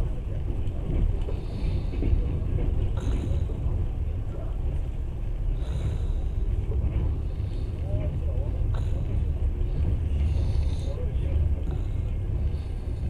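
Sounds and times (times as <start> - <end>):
train wheels rumbling inside carriage: 0.0 - 13.0.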